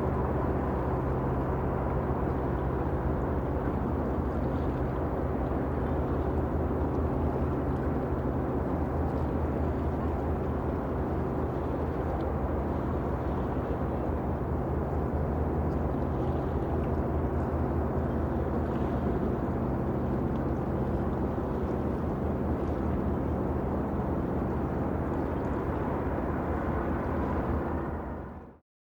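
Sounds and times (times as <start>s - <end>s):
ship engine drone: 0.0s - 28.6s
water noise: 0.0s - 28.6s.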